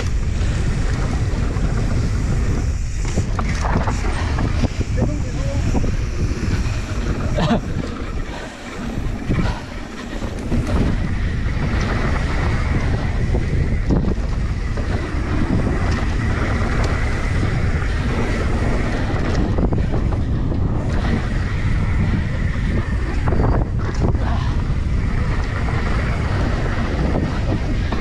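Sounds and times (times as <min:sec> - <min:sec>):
low tyre rumble: 0:00.0 - 0:28.0
wind buffeting microphone: 0:00.0 - 0:28.0.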